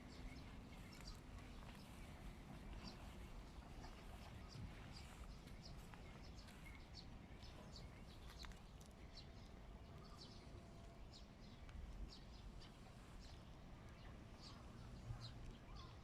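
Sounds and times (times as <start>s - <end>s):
faint bird chirps: 0.0s - 16.0s
low outdoor rumble: 0.0s - 16.0s.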